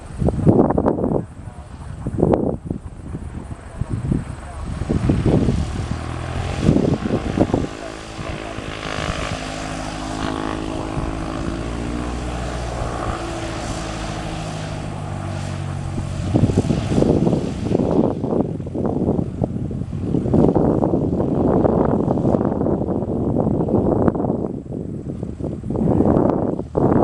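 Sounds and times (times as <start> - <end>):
light aircraft engine droning: 0.0 - 27.0
low rumbling: 0.0 - 27.0.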